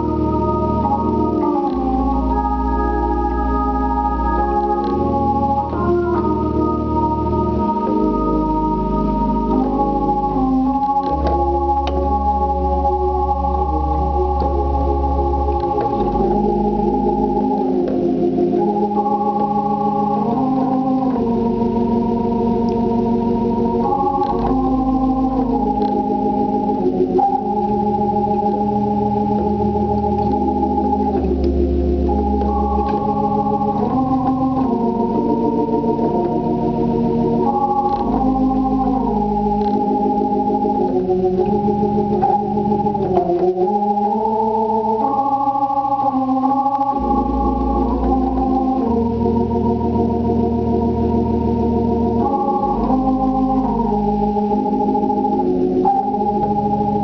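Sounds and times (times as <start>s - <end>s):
deep bass notes: 0.0s - 57.0s
organ playing sustained chords: 0.0s - 57.0s.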